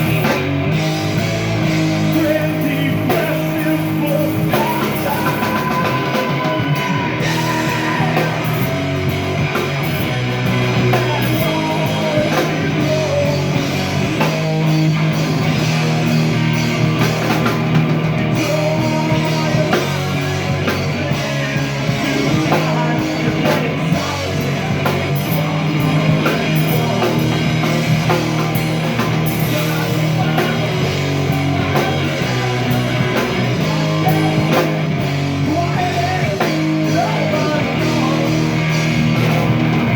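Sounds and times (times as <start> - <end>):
rock band playing loudly: 0.0 - 39.9
person singing: 1.2 - 39.9.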